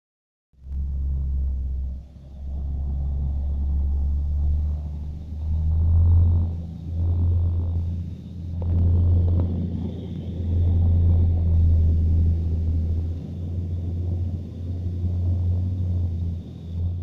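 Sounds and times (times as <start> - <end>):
truck diesel engine rumbling: 0.6 - 17.0.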